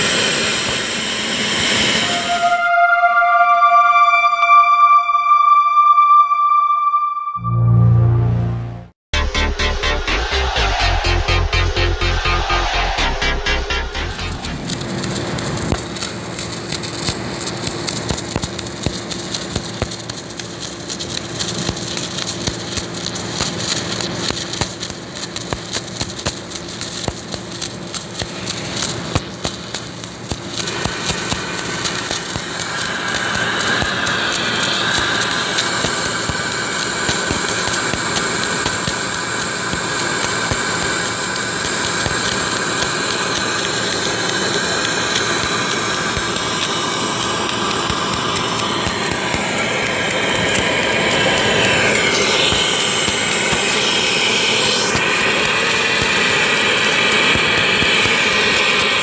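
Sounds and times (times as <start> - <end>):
welding rig humming and crackling: 0.0 - 2.6, 9.9 - 59.0
loud hiss with high whine: 0.0 - 2.7, 9.8 - 59.0.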